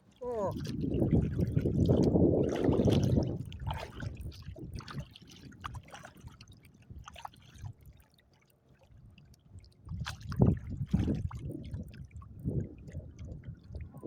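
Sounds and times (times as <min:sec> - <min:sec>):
water splashing against kayak hull: 0:00.0 - 0:14.0.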